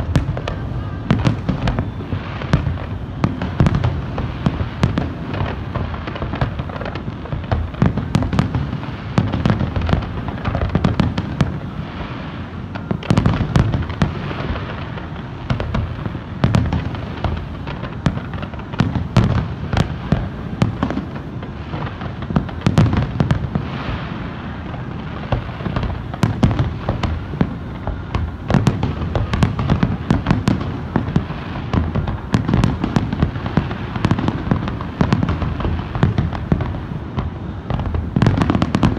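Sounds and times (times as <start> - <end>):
continuous low rumble: 0.0 - 38.9.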